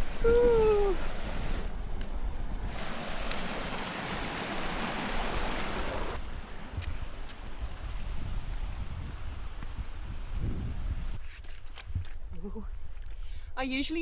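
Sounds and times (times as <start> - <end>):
wind gusting: 0.0 - 11.3
wind buffeting microphone: 0.0 - 14.0.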